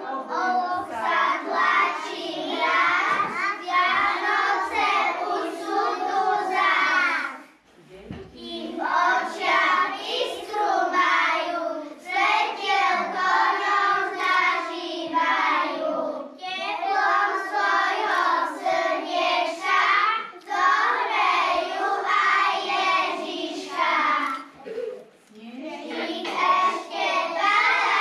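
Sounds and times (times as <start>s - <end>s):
young children singing: 0.0s - 7.6s, 8.3s - 25.1s, 25.7s - 28.0s.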